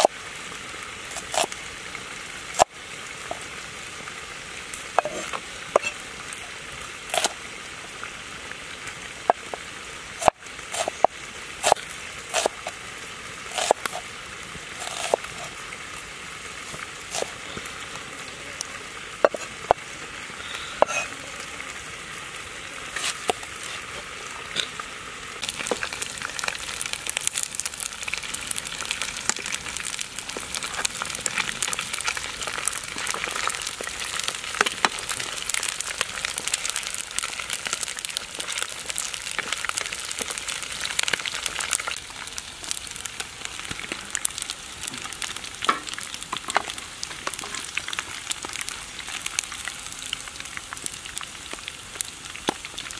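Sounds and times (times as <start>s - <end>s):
meat sizzling in hot oil: 0.0s - 52.9s.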